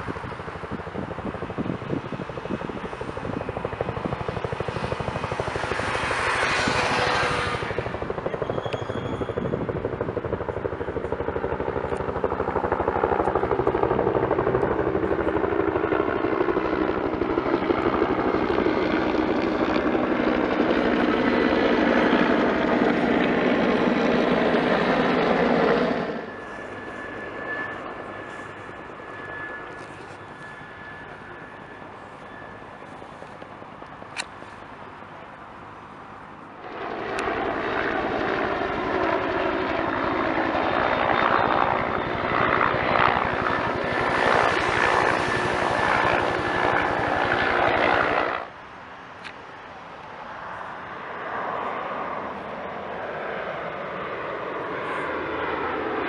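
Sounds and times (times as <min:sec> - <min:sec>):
helicopter rotors beating: 0:00.0 - 0:48.6, 0:50.9 - 0:56.0
distant helicopter whine: 0:00.0 - 0:56.0.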